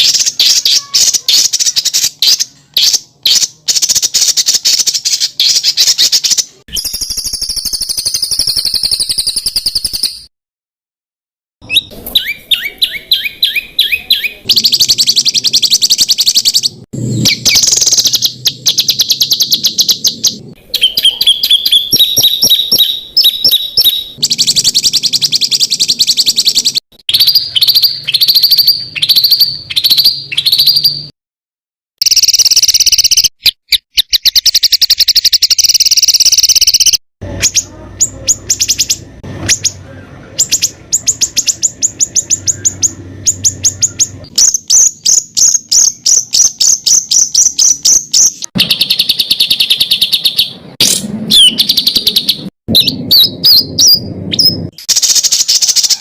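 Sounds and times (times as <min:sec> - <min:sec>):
songbird trills and chattering: 0:00.0 - 0:10.2, 0:11.6 - 0:31.1, 0:32.0 - 0:56.0.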